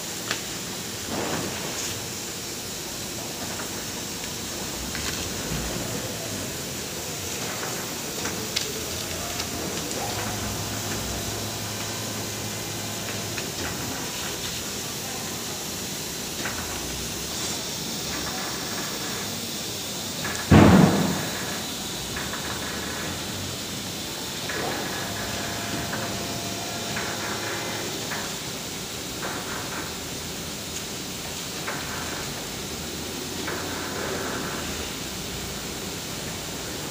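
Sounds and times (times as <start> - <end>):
machinery hissing and running: 0.0 - 36.9.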